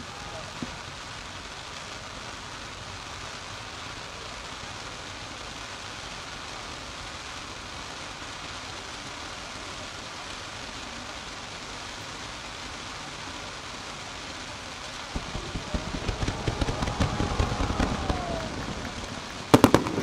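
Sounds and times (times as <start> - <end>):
distant fireworks crackling: 0.0 - 20.0.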